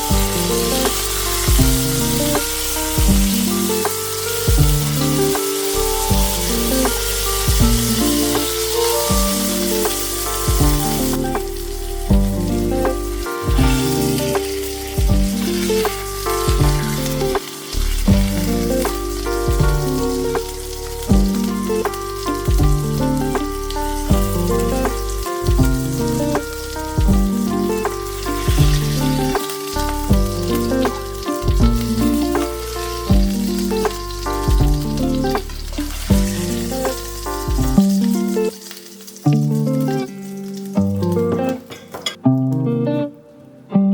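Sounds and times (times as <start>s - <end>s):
background music with drum hits: 0.0s - 38.1s
oil sizzling in a pan: 0.0s - 43.1s.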